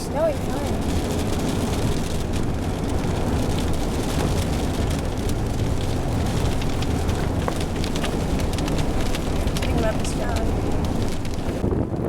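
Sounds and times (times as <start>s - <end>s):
light ticks and patters: 0.0s - 12.0s
vehicle road noise rumble: 0.0s - 12.0s.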